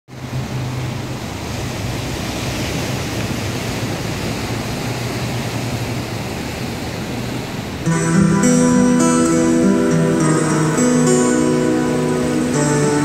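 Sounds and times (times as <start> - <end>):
waves breaking on beach: 0.1 - 13.0.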